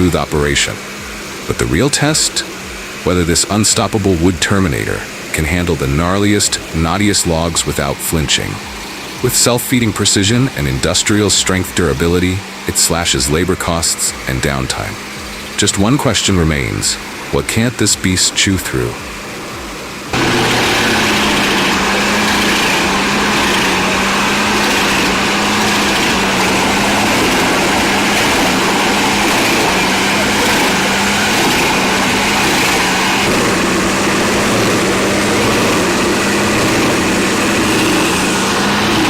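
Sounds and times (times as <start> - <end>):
machine engine running: 0.0 - 39.0
mechanical rush: 0.0 - 39.0.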